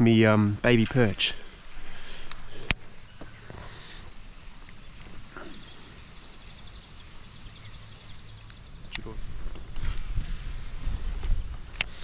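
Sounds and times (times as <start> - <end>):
birds chirping: 0.0 - 12.0
wind: 0.0 - 12.0.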